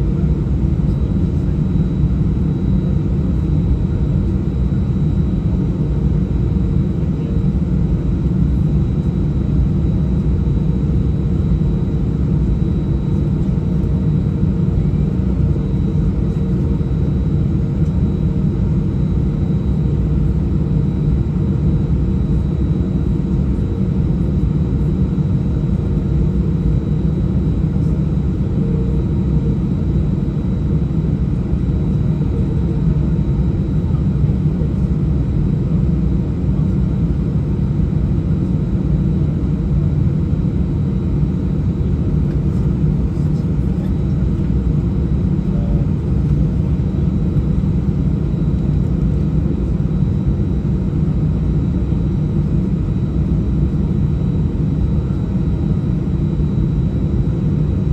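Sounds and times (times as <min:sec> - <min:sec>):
jet engines idling in cabin: 0:00.0 - 0:57.9.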